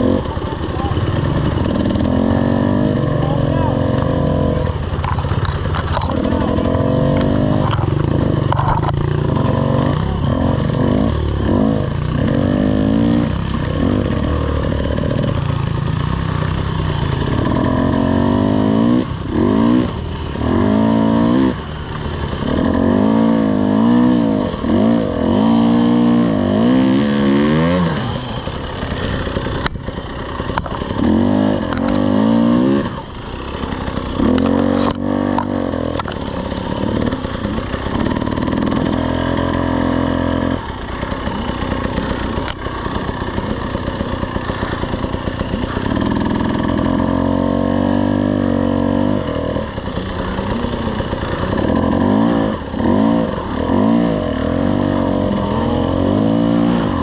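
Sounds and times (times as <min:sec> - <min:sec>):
off-road engine revving: 0:00.0 - 0:57.0.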